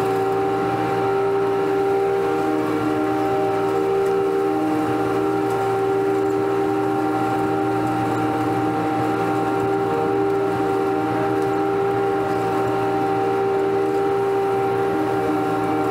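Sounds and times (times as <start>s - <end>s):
riding lawn mower engine hum: 0.0s - 15.9s.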